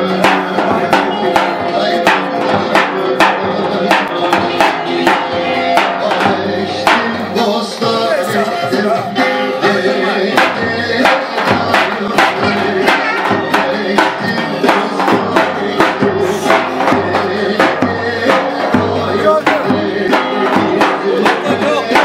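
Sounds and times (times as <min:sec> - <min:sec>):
bass drum beating dance rhythm: 0:00.0 - 0:22.0.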